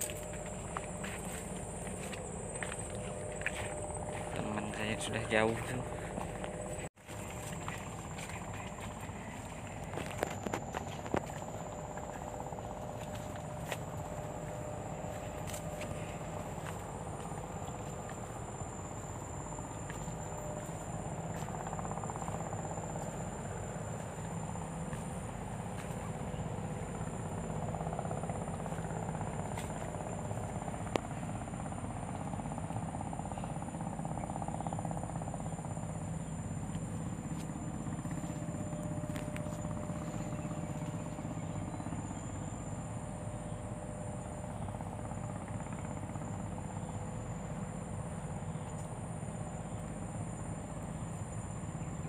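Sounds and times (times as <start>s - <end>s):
high insect trill: 0.0s - 52.0s.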